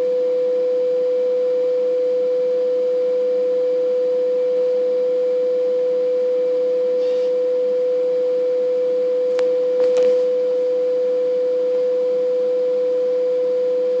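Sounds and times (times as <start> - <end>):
machine steady mid-pitched tone: 0.0 - 14.0.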